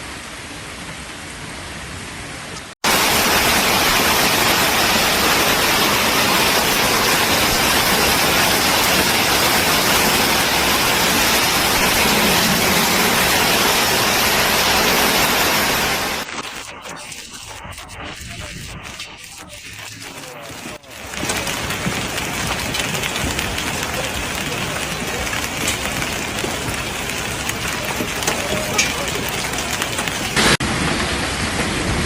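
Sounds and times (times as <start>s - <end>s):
heavy rain downpour: 0.0s - 32.0s.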